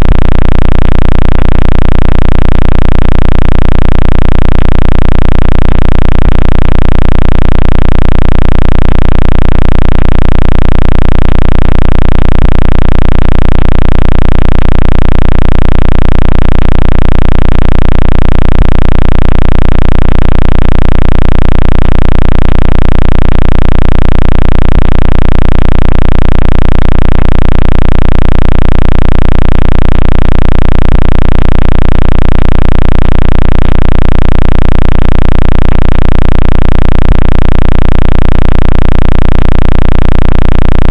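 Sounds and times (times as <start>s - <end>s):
pulsing low-pitched hum: 0.0s - 38.6s, 39.4s - 40.9s.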